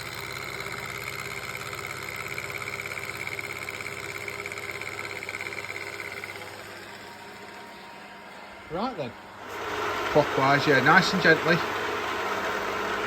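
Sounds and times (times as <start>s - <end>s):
milling machine hum: 0.0s - 13.0s.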